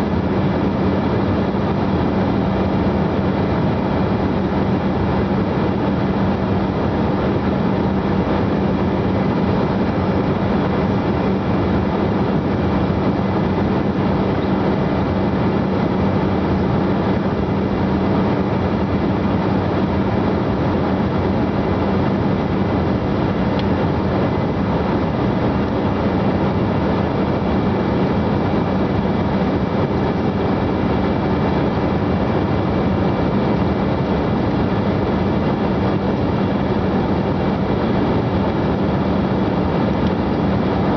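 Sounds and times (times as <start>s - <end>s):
airliner cabin noise: 0.0s - 40.9s.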